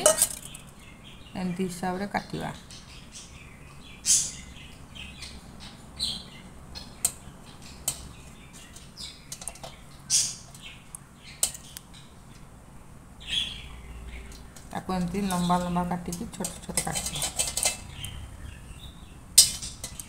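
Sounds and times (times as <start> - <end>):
high bird chirps: 2.4 - 12.2, 13.2 - 20.0.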